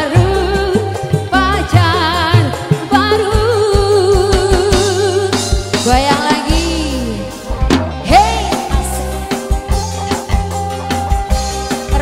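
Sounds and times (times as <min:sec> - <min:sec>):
live band music: 0:00.0 - 0:12.0.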